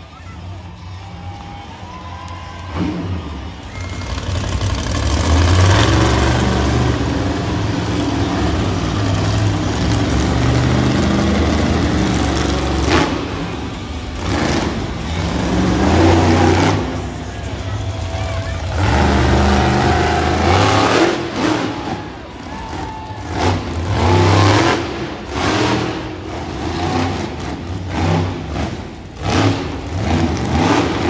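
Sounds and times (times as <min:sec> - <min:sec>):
truck engine revving hard: 0:02.7 - 0:31.0.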